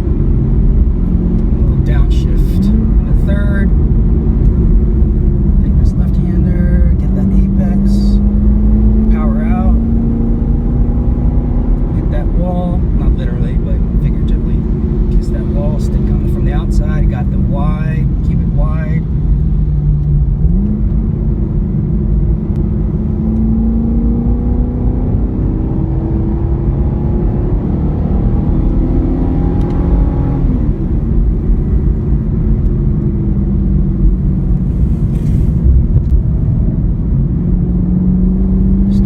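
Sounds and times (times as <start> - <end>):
car engine under load: 0.0 - 39.0
road noise: 0.0 - 39.0.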